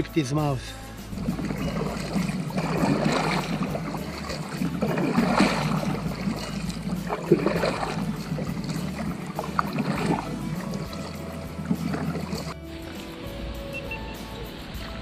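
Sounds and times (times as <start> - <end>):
paddle pulling through water: 0.9 - 15.0
water splashing and dripping: 0.9 - 15.0.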